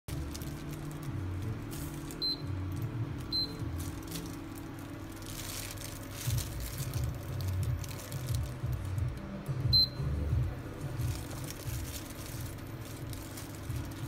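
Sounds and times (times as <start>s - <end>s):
plastic glove rustling: 0.1s - 9.6s, 10.4s - 14.0s
low steady hum: 0.1s - 14.0s.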